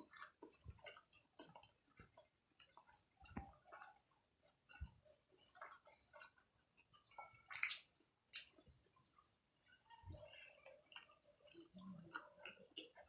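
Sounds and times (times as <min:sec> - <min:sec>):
chewing and wet mouth sounds: 0:00.0 - 0:13.0.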